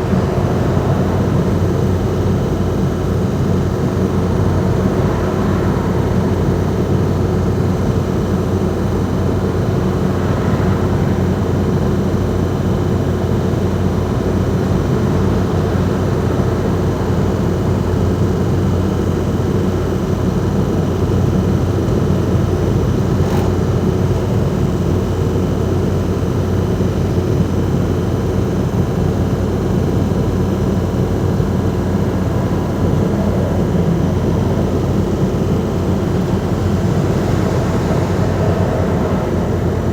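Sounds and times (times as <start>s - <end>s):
van diesel engine running: 0.0s - 39.9s.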